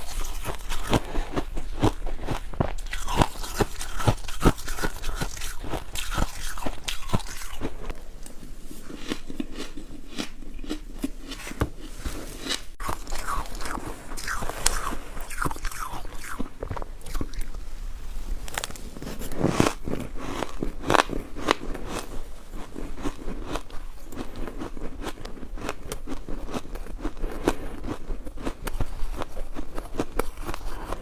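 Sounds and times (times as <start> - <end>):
ice crunching being chewed: 0.0 - 17.6, 18.5 - 31.0.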